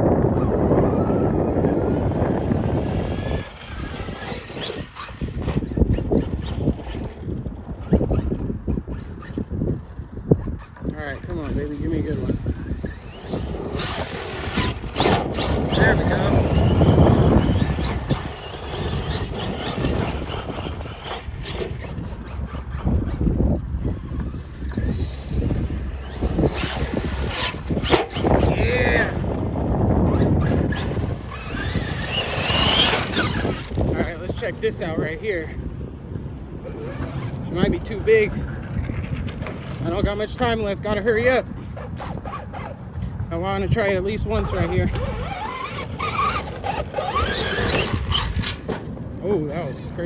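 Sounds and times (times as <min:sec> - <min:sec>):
electric motor whine: 0:00.0 - 0:50.0
tyres crunching on dirt: 0:00.0 - 0:50.0.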